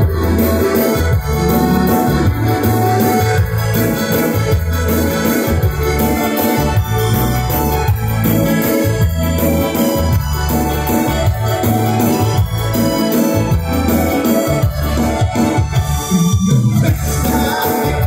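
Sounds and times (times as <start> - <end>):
bass line: 0.0 - 18.0
keyboard chords: 0.0 - 18.0
live band music: 0.0 - 18.0.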